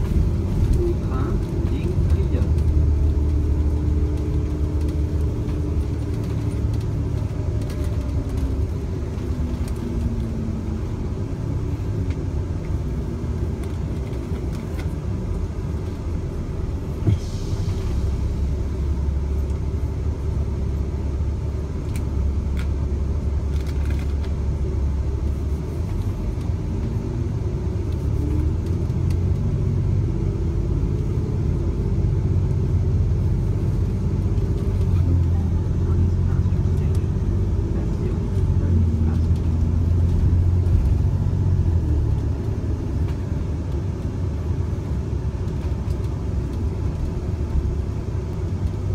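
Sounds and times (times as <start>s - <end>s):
bus engine and road noise: 0.0s - 48.9s.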